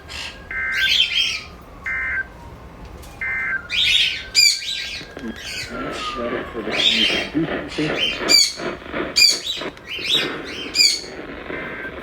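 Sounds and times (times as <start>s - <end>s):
bird squawk: 0.0s - 2.2s, 3.2s - 12.0s
bird chirping: 0.0s - 2.4s, 3.1s - 12.0s
data tone bursts: 0.4s - 2.3s, 3.2s - 12.0s.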